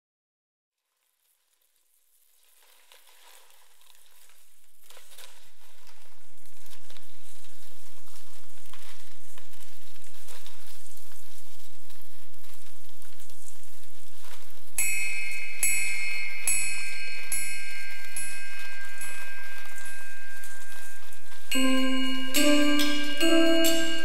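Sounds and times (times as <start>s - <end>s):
electronic crackle and static: 0.8s - 23.9s.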